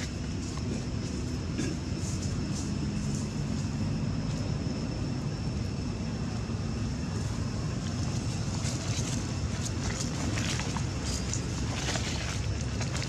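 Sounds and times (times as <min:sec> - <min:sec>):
faint high whine: 0:00.0 - 0:13.0
low background rumble: 0:00.0 - 0:13.0.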